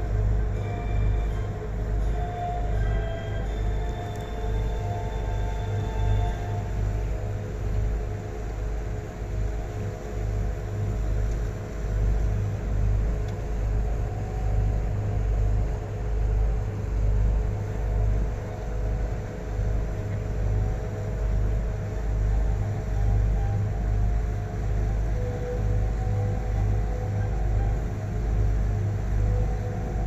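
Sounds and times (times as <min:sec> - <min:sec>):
boat engine rumbling: 0:00.0 - 0:30.0
steady engine drone: 0:00.0 - 0:30.0.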